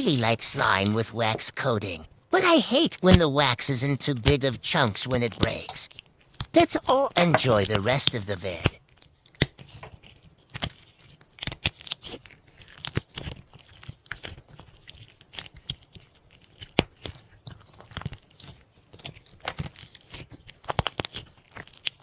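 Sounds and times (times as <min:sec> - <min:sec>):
slime crackling and popping: 0:02.8 - 0:22.0.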